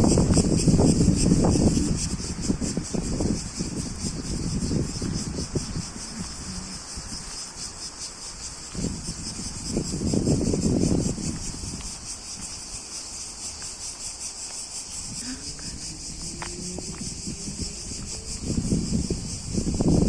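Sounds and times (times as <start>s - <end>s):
crickets chirring: 0.0s - 20.0s
wind buffeting microphone: 0.0s - 20.0s.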